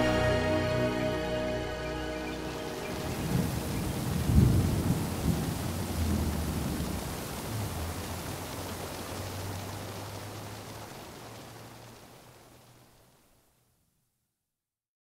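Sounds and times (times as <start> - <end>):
thunder rumbling: 0.0 - 12.2
rain hissing: 0.0 - 13.8.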